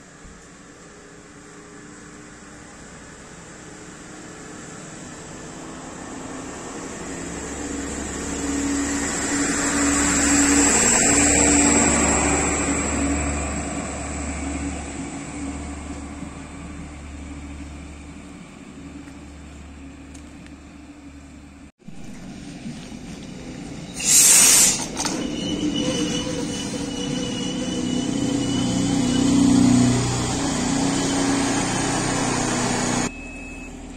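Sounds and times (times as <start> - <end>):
diesel engine droning: 0.0 - 24.0, 25.0 - 33.9
train wheels on rails: 4.0 - 21.0, 21.8 - 33.1.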